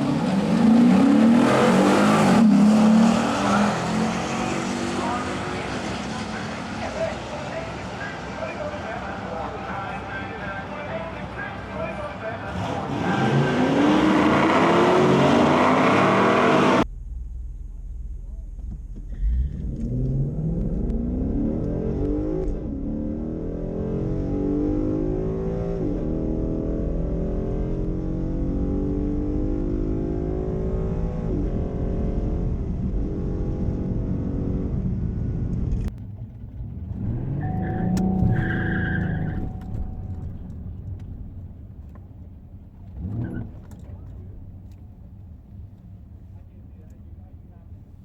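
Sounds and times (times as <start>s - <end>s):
passing vehicle: 0.0s - 17.0s, 18.3s - 48.0s
car engine at full throttle: 0.0s - 48.0s.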